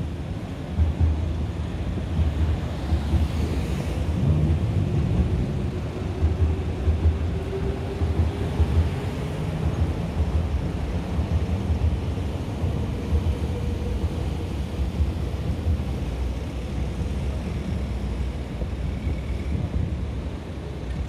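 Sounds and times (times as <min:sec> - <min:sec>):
city background rumble: 0:00.0 - 0:21.0.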